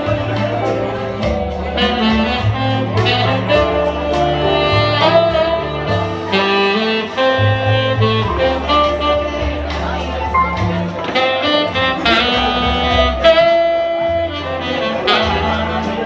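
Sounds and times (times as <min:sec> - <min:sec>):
steady drum beat: 0:00.0 - 0:14.5
bass: 0:00.0 - 0:16.0
tenor saxophone melody: 0:00.0 - 0:16.0.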